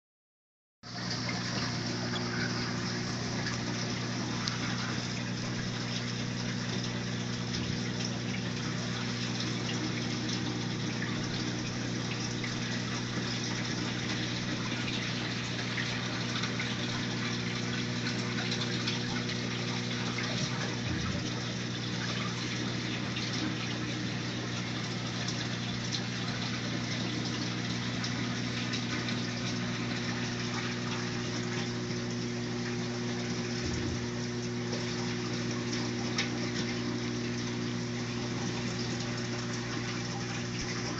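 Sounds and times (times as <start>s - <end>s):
pump hum: 0.8s - 40.9s.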